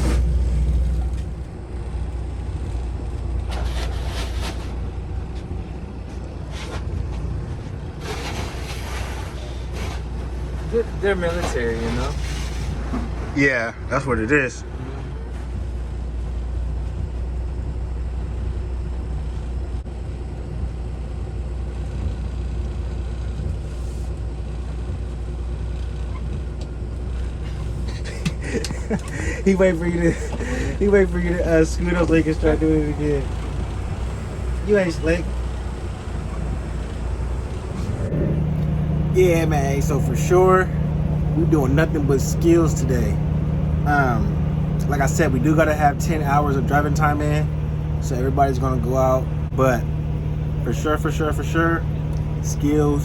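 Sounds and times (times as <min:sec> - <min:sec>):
truck diesel engine rumbling: 0:00.0 - 0:53.0.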